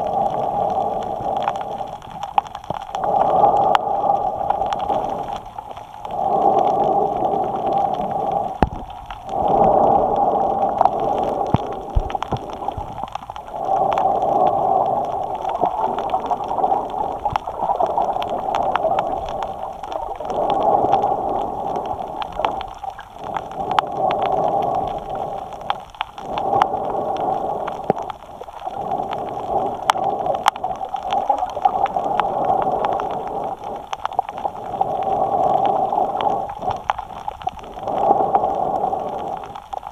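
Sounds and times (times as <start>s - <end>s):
breathing through a snorkel: 0.0s - 2.2s, 2.8s - 39.9s
water clicks and crackles: 0.0s - 39.9s.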